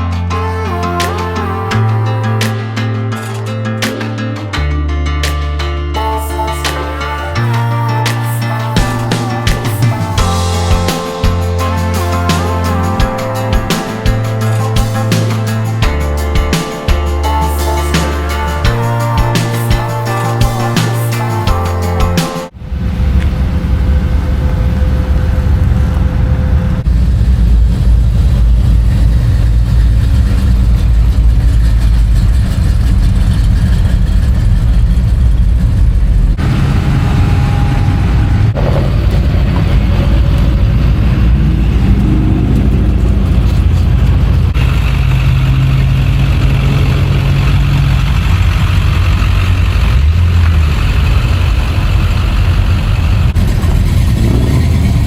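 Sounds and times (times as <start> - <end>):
truck engines idling: 6.2 - 22.6, 27.2 - 55.0
truck engine revving: 6.3 - 22.6, 27.0 - 55.0.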